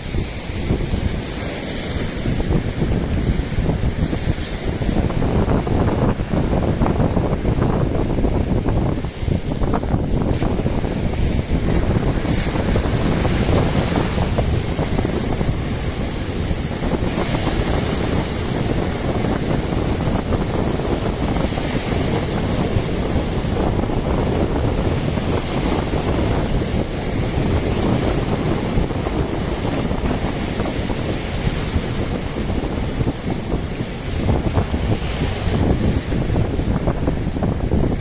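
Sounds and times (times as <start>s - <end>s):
sea waves washing: 0.0s - 38.0s
wind buffeting microphone: 0.0s - 38.0s.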